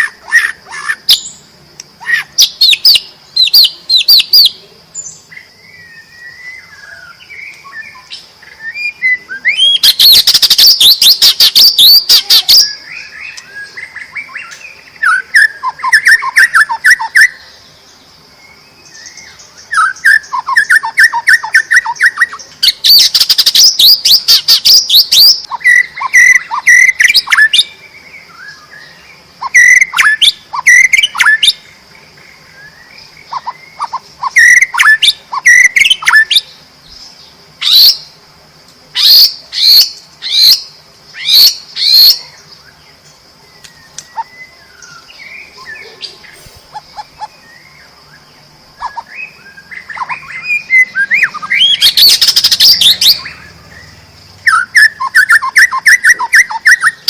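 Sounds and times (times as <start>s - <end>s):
soft bird chattering: 0.0s - 4.7s, 6.9s - 17.8s, 19.0s - 27.8s, 29.3s - 32.5s, 33.1s - 38.1s, 43.6s - 57.0s
bird singing whistled notes: 0.0s - 38.2s, 39.0s - 57.0s.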